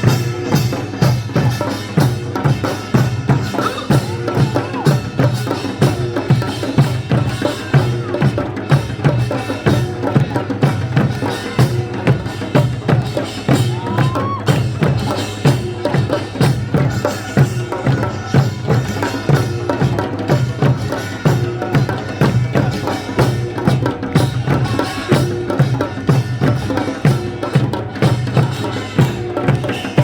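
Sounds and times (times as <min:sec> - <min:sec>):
folk drums beating rhythm: 0:00.0 - 0:30.0.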